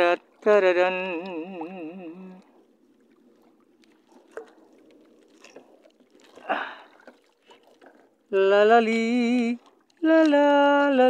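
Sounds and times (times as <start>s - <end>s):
water lapping around boat: 0.0s - 11.0s.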